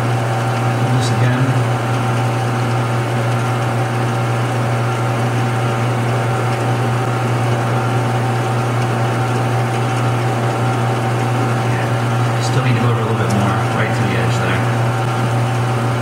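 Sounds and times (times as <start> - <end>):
lathe motor hum: 0.0 - 16.0.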